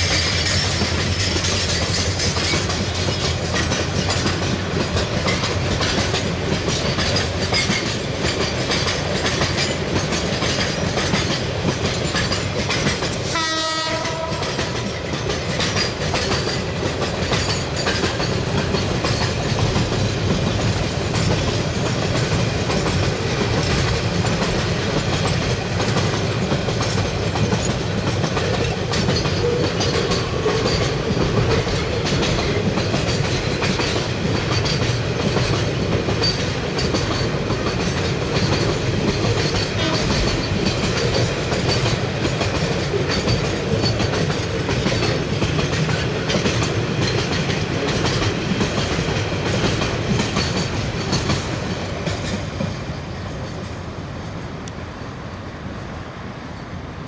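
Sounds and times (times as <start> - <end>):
wheels clattering over rail joints: 0.0 - 53.8
freight train wheels rumbling: 0.0 - 57.0.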